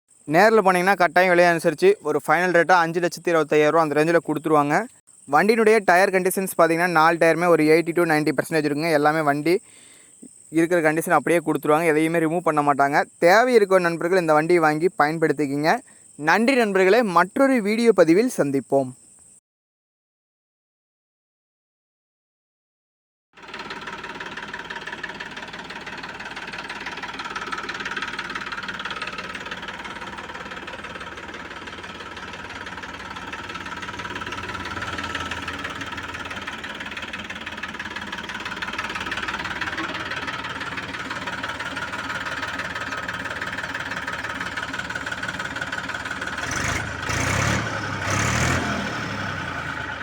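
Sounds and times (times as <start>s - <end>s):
tractor diesel engine idling: 0.2s - 17.2s, 23.4s - 50.0s.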